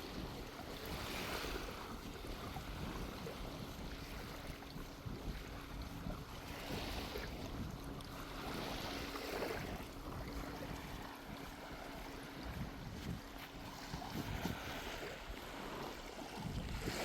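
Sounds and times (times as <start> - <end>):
faint steady hum: 0.0 - 17.0
waves washing onto shore: 0.0 - 17.0
wind rumbling on microphone: 0.0 - 17.0.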